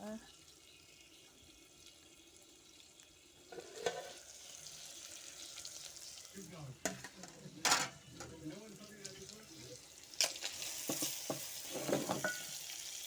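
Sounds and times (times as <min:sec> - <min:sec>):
pork sizzling in a pot: 0:00.0 - 0:13.0.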